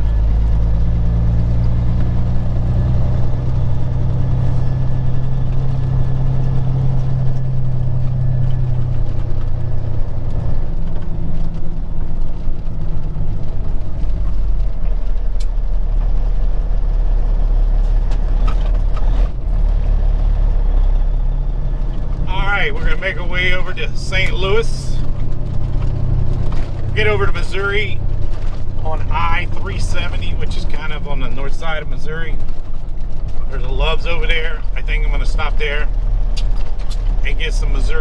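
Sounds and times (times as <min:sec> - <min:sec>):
road noise: 0:00.0 - 0:38.0
truck diesel engine running: 0:00.0 - 0:38.0.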